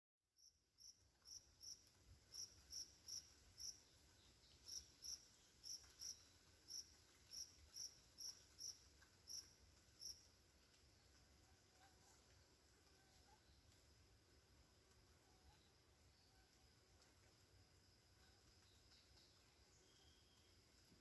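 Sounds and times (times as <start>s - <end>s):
cricket chirping: 0.4s - 21.0s
light rain hiss: 0.4s - 21.0s.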